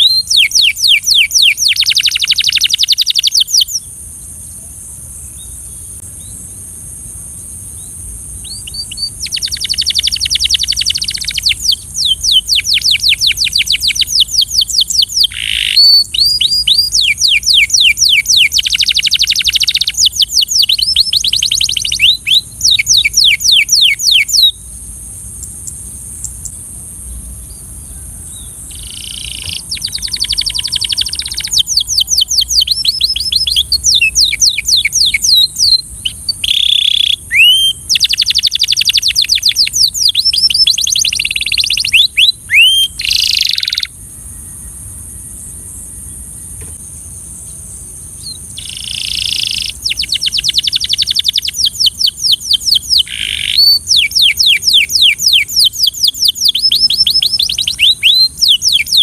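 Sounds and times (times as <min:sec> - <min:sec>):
canary singing trills: 0:00.0 - 0:06.4, 0:07.8 - 0:44.0, 0:48.2 - 0:59.0.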